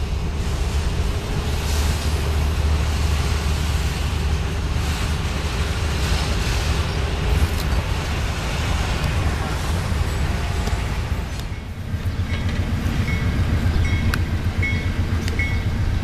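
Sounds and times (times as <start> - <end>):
locomotive engine rumble: 0.0 - 16.0
rail and wheel noise: 0.0 - 16.0.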